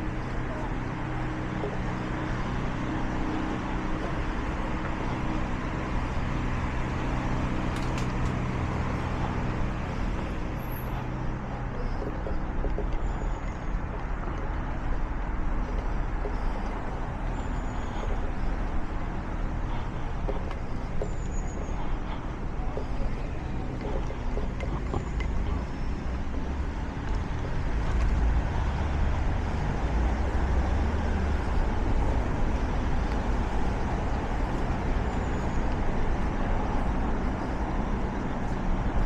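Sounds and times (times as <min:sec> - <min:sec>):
road traffic noise: 0:00.0 - 0:39.0
vehicle engine low hum: 0:00.0 - 0:39.0.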